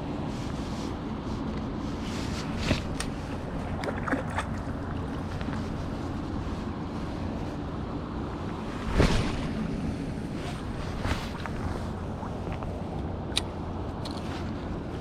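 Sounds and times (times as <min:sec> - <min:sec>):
water noise: 0:00.0 - 0:15.0
wind: 0:00.0 - 0:15.0.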